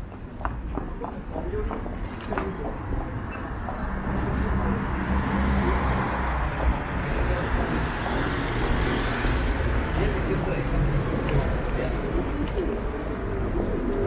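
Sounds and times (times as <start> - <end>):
low rumble of city street: 0.0 - 14.0.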